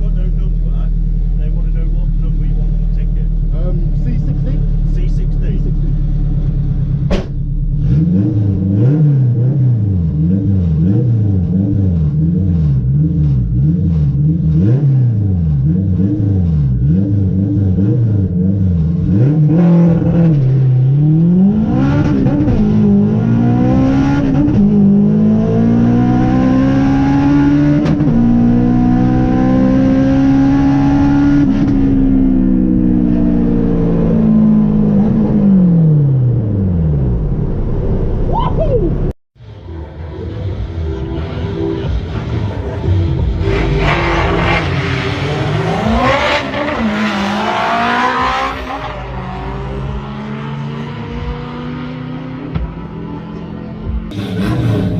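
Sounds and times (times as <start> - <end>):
car engine revving and accelerating: 0.0 - 39.6, 40.2 - 54.9.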